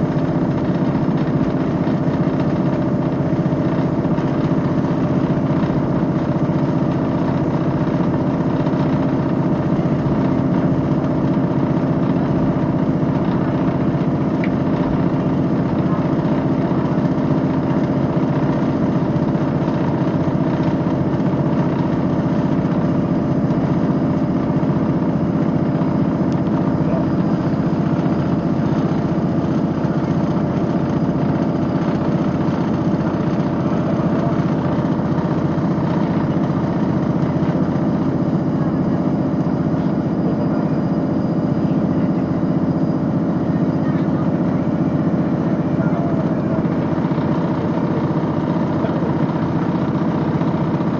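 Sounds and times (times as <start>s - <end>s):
diesel train engine drone: 0.0s - 50.9s.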